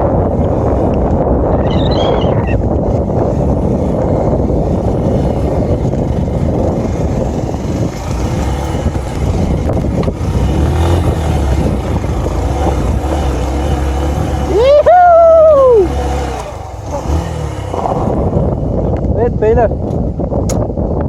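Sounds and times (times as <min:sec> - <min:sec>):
motorcycle engine rumble: 0:00.0 - 0:21.0
wind on microphone: 0:00.0 - 0:21.0.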